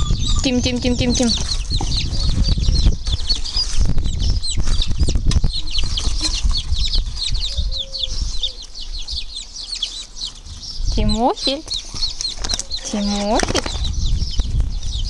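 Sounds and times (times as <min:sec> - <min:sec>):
baby chicks peeping: 0:00.0 - 0:15.0
low rumbling: 0:00.0 - 0:15.0.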